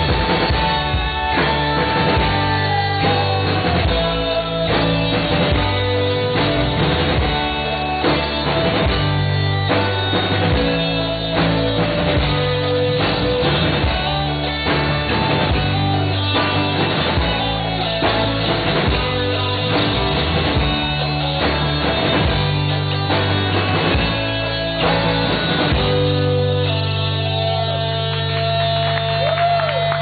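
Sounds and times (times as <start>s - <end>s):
drum kit: 0.0s - 30.0s
electric guitar: 0.0s - 30.0s.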